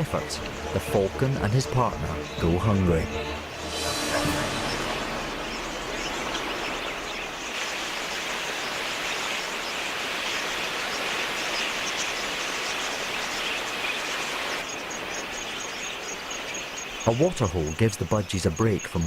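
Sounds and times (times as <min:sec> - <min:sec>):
outdoor nature ambience: 0:00.0 - 0:19.0.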